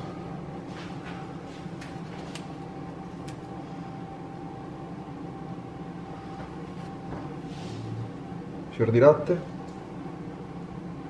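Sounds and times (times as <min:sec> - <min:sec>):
fan humming with faint whine: 0:00.0 - 0:11.0.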